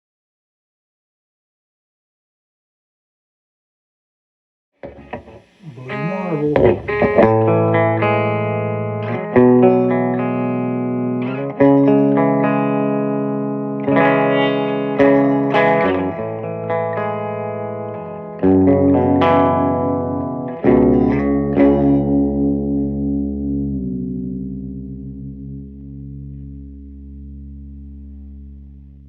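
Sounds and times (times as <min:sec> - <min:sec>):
electric guitar chords ringing: 0:04.8 - 0:29.0.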